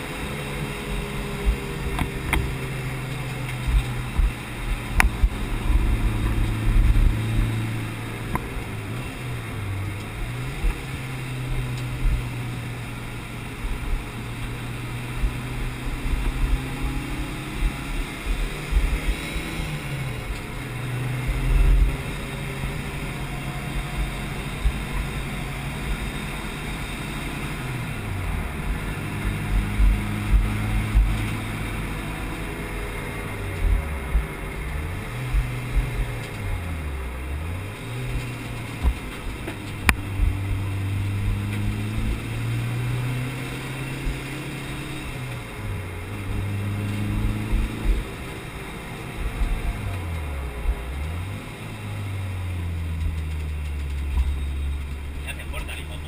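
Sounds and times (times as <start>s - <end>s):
car engine at speed: 0.0s - 56.0s
road and wind rumble: 0.0s - 56.0s.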